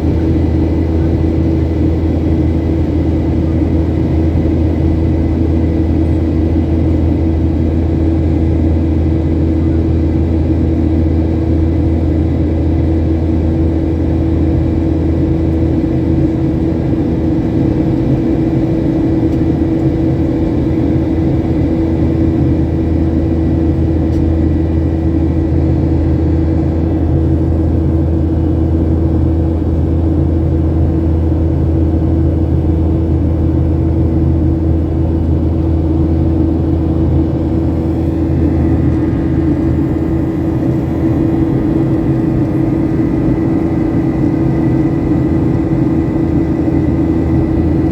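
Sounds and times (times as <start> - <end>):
jet engine cabin drone: 0.0 - 47.9.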